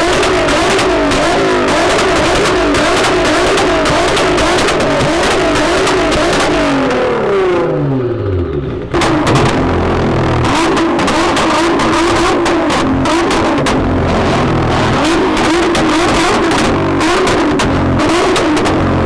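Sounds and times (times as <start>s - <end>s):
car engine accelerating hard: 0.0s - 19.0s
second car engine running hard: 0.0s - 19.0s.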